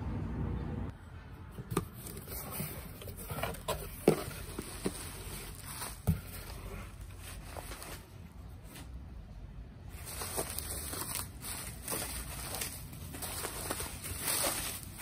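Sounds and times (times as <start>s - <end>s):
cardboard rustling and scraping: 1.6s - 9.0s, 9.9s - 15.0s.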